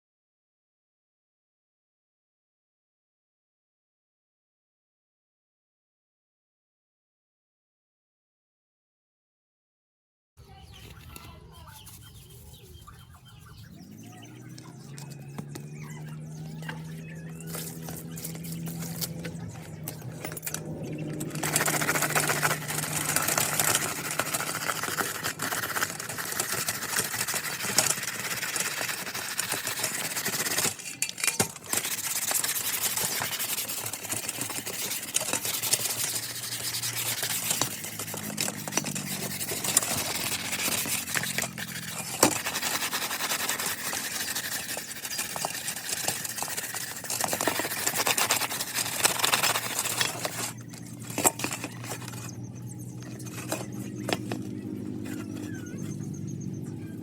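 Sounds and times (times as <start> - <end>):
scrubbing on plastic keyboard: 10.5 - 56.2.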